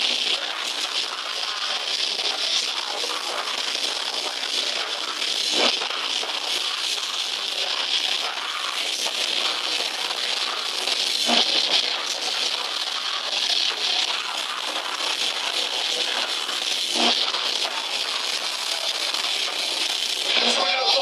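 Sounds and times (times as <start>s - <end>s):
distorted guitars: 0.0s - 21.0s.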